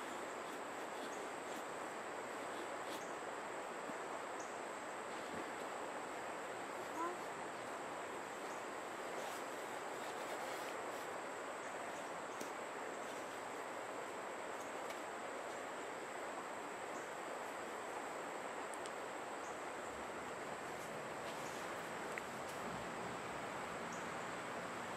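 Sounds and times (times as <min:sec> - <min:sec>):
background hiss: 0:00.0 - 0:24.9.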